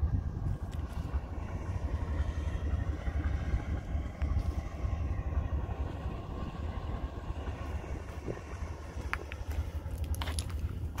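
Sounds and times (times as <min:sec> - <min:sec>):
locomotive idling: 0:00.0 - 0:11.0.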